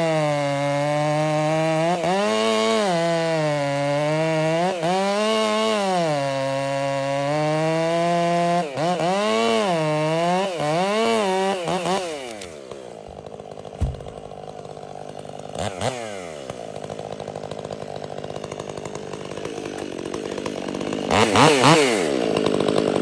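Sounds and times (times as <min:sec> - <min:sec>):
chainsaw cutting under load: 0:00.0 - 0:23.0.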